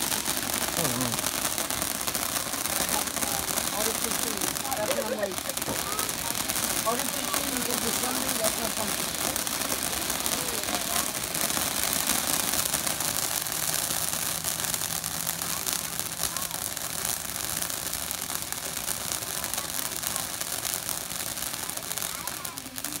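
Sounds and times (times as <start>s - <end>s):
firework spraying sparks: 0.0s - 23.0s.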